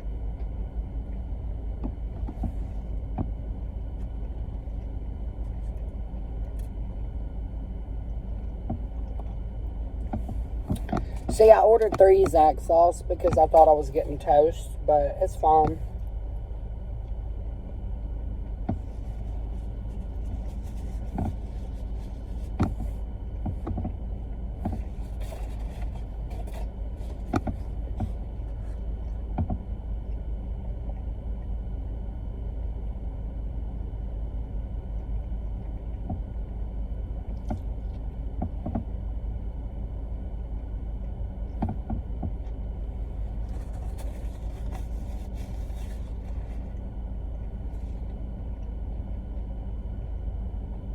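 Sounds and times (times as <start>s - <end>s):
car engine rumble inside cabin: 0.0s - 50.9s.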